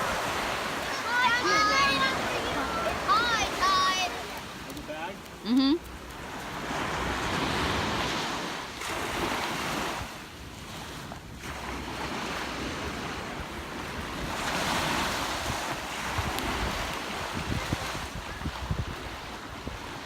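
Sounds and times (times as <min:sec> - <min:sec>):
ocean surf washing onto beach: 0:00.0 - 0:20.0
waves breaking: 0:00.0 - 0:20.0
wind on microphone: 0:00.0 - 0:20.0.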